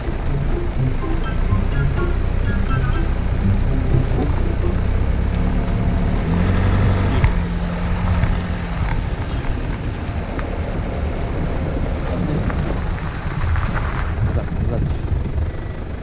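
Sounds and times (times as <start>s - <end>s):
vehicle engine running slowly: 0.0s - 16.0s.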